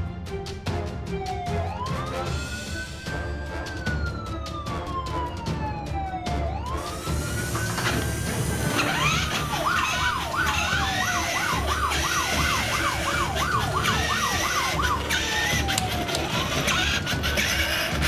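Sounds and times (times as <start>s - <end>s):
siren yelp wail: 1.2s - 18.0s
slow siren wails: 1.2s - 18.0s.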